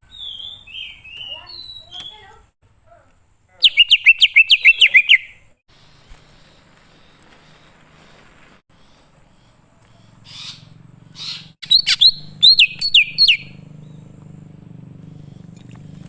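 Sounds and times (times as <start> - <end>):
bird singing: 0.0 - 2.5, 3.5 - 16.0.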